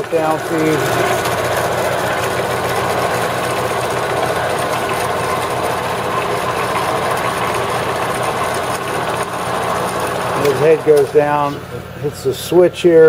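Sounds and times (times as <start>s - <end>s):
bandsaw motor humming: 0.0s - 13.0s.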